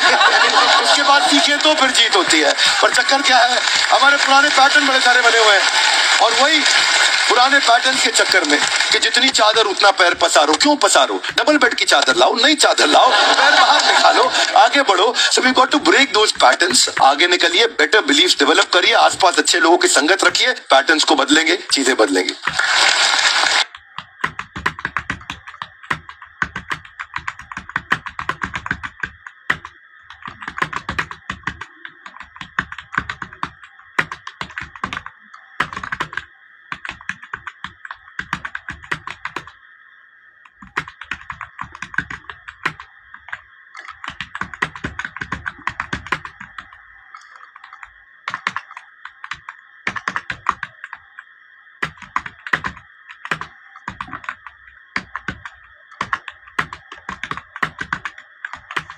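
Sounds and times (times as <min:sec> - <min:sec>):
fast typing on keyboard: 0:00.0 - 0:39.6, 0:40.4 - 0:58.9.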